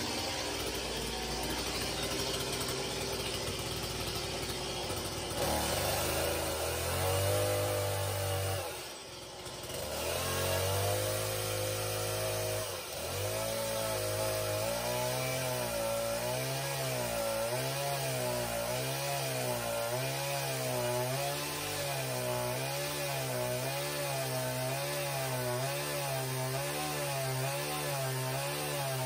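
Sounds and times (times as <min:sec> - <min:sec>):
chainsaw cutting log: 0:00.0 - 0:29.0.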